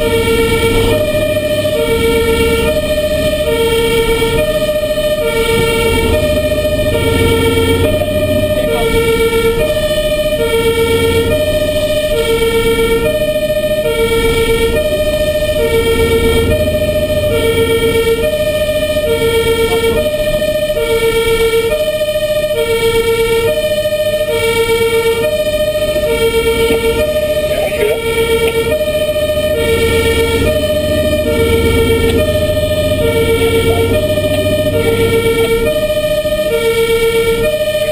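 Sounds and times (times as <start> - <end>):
two-tone fire engine siren: 0.0 - 37.9.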